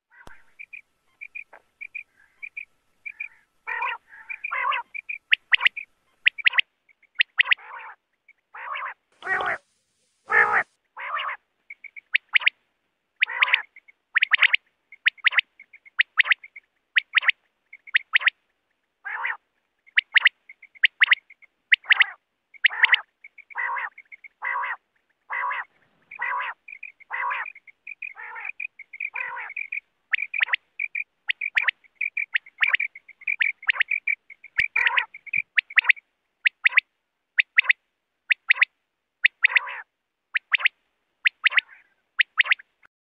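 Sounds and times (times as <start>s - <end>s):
quail calling: 0.0s - 9.6s, 10.3s - 12.6s, 13.2s - 42.7s.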